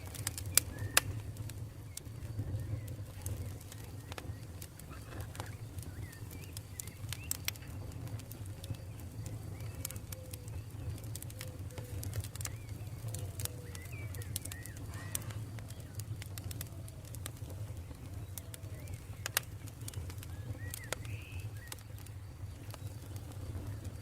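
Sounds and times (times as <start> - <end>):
birds calling: 0.0 - 24.0
campfire crackling and popping: 0.0 - 24.0.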